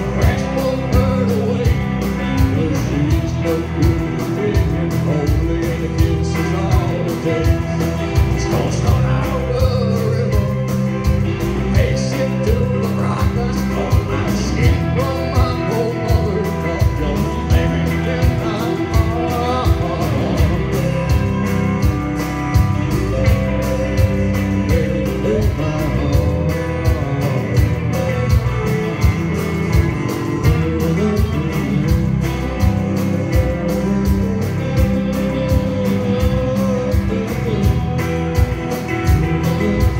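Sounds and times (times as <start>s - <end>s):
amplified guitars: 0.0s - 39.9s
drum kit beat: 0.0s - 39.9s.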